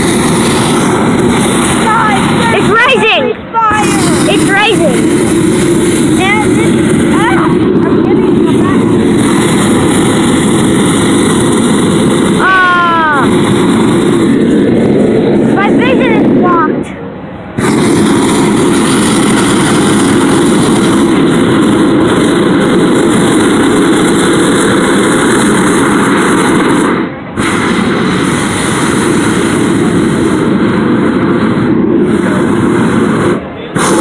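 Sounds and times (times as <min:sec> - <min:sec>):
propane burner blast: 0:00.0 - 0:34.0.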